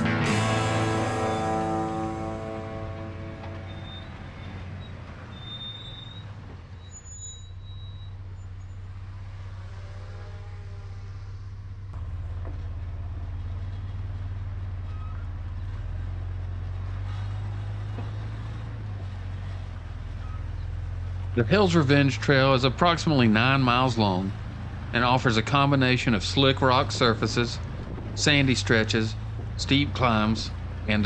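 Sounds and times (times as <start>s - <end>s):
car engine running: 0.0s - 6.9s, 7.6s - 31.0s.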